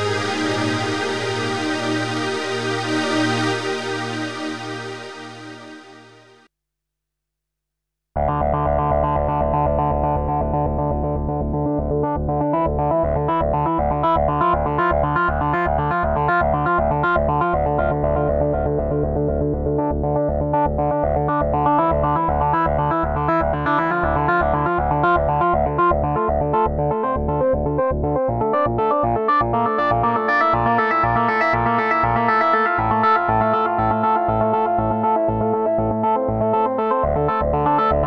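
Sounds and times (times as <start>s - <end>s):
synthesizer repeated notes run: 0.0s - 6.4s, 8.2s - 38.0s
synthesizer low chord: 0.0s - 6.5s, 8.2s - 38.0s.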